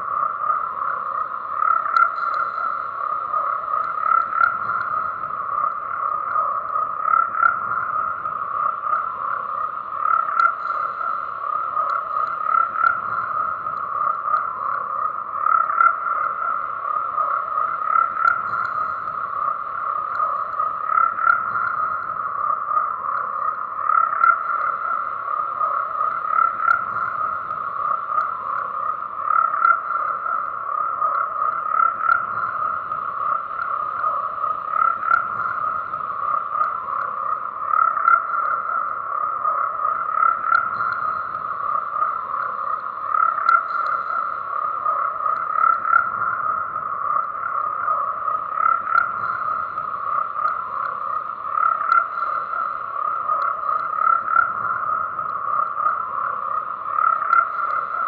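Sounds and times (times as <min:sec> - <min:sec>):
frogs croaking chorus: 0:00.0 - 0:58.0.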